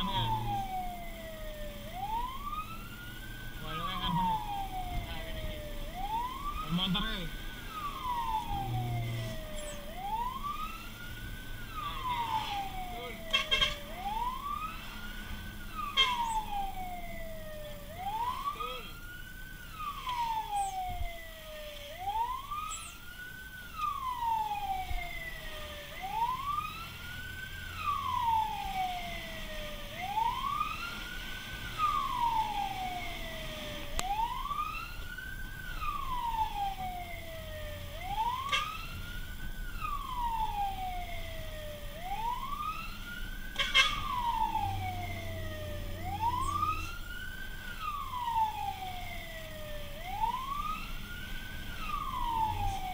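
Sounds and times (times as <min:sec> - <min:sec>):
fire truck siren wailing: 0:00.0 - 0:52.9.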